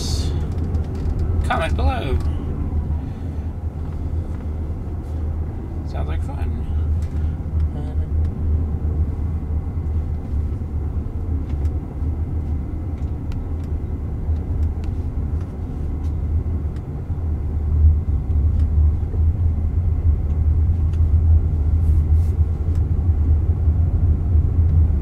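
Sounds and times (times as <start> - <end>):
road and tyre rumble in car cabin: 0.0 - 25.0.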